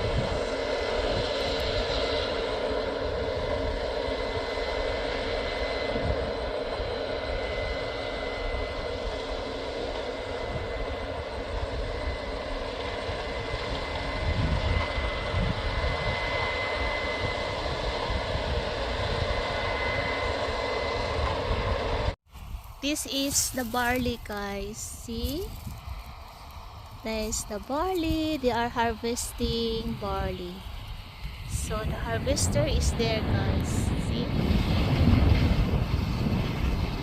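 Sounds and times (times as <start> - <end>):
combine harvester engine drone: 0.0 - 37.0
high steady whine: 0.0 - 37.0.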